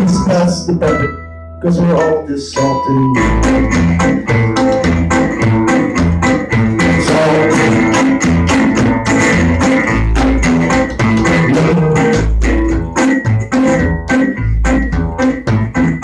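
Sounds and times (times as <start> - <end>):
plucked double bass: 0.0 - 16.0
resonator guitar picking: 0.0 - 16.0.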